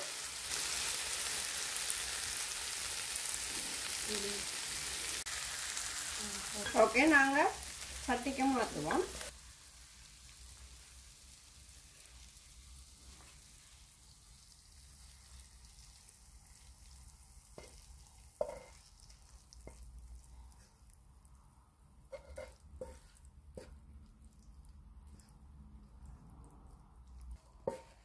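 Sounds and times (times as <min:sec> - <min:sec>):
food sizzling in a pan: 0:00.0 - 0:20.8, 0:22.0 - 0:23.8.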